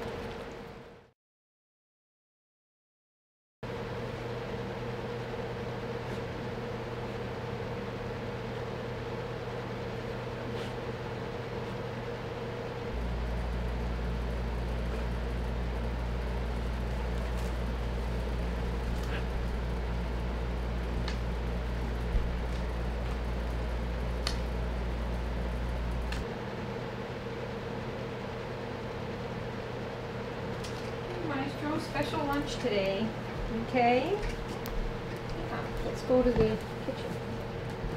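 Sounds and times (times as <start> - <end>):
steady machine hum: 3.6 - 37.9.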